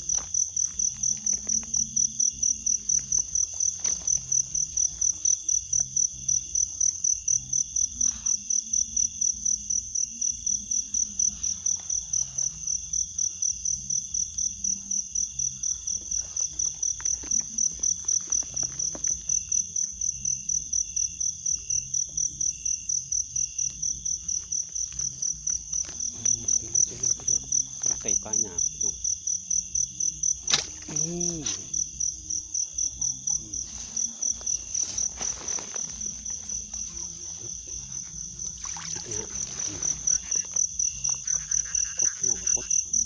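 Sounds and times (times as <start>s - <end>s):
faint steady insect tones: 0.0s - 43.0s
insect high-pitched pulsing trill: 0.0s - 43.0s.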